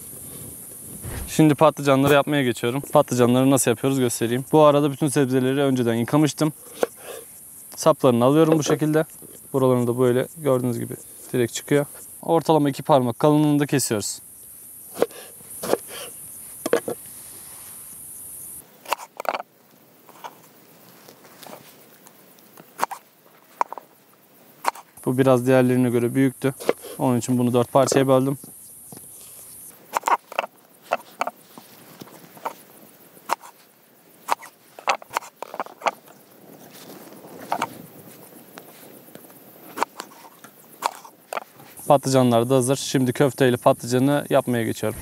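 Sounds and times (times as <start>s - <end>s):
steady high hiss: 0.0s - 45.0s.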